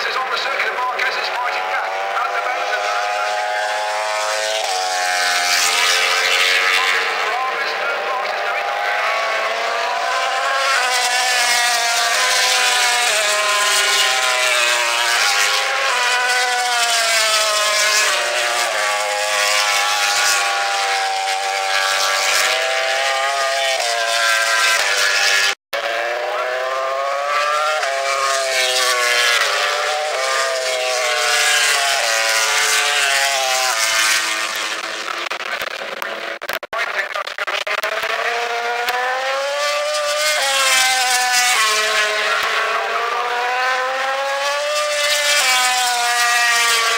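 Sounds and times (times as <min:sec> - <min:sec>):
racing motorcycles revving past: 0:00.0 - 0:36.4, 0:37.6 - 0:46.9.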